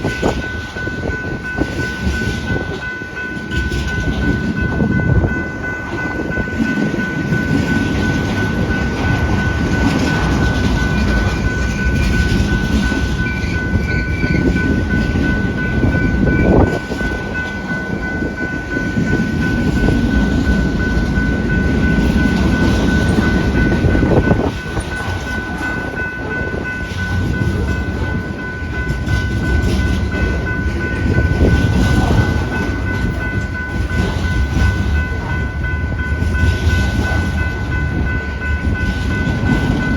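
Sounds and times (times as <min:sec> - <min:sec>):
train wheels rumbling on rails: 0:00.0 - 0:39.9
wind buffeting microphone: 0:00.0 - 0:39.9.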